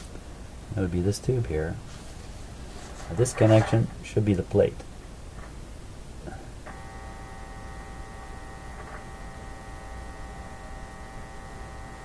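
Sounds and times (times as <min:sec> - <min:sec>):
buzzy mains hum: 0:00.0 - 0:12.0.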